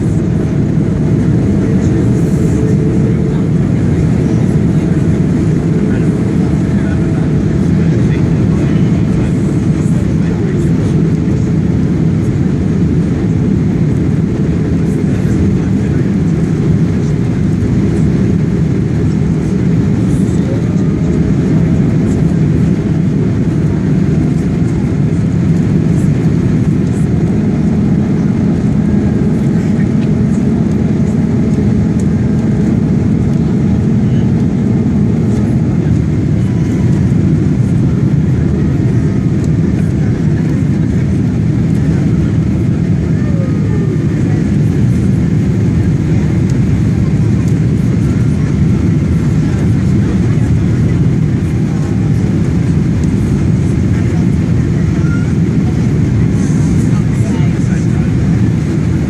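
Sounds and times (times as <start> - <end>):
airplane cabin engine rush: 0.0 - 59.0.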